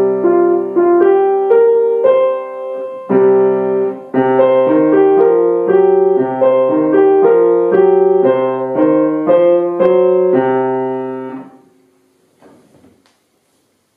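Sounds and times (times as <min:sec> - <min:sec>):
grand piano chords: 0:00.0 - 0:12.7.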